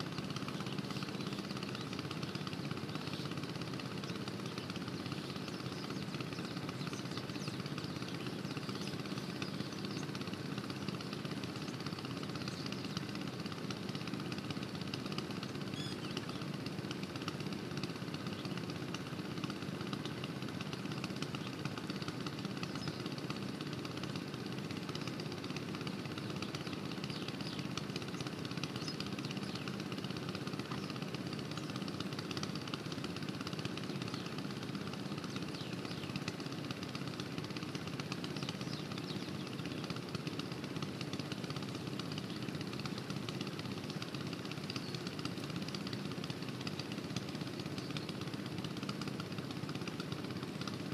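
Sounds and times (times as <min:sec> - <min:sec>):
water pump engine running: 0:00.0 - 0:50.9.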